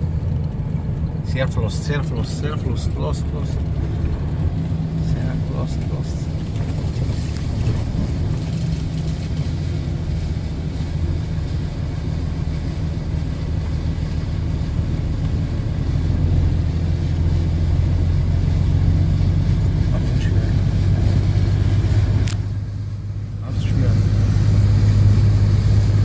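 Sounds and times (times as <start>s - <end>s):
vehicle engine droning: 0.0s - 26.0s.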